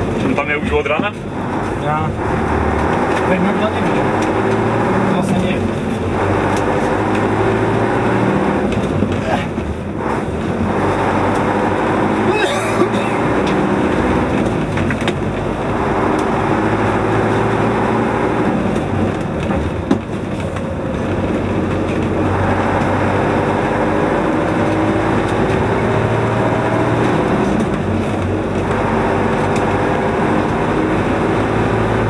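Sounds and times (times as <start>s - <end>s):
fire engine accelerating: 0.0s - 32.0s.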